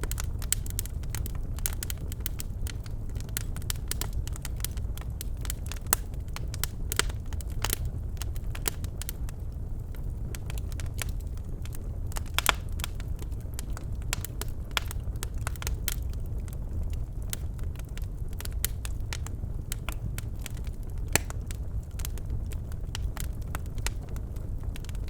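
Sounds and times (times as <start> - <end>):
logs crackling and popping: 0.0 - 25.0
low rumble of flames: 0.0 - 25.0.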